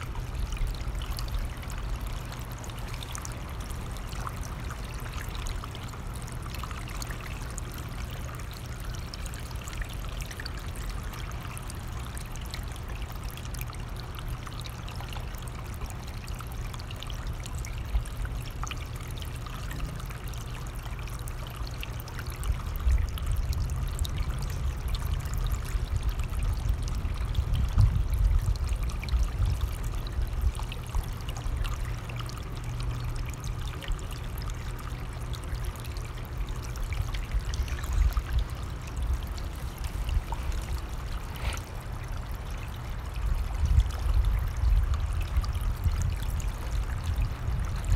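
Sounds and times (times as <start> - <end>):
low rumble of wind: 0.0 - 47.9
stream flowing: 0.0 - 47.9.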